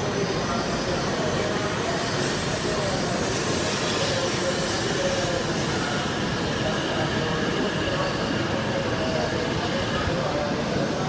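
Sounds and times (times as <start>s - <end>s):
train rolling rumble with whine: 0.0s - 11.0s.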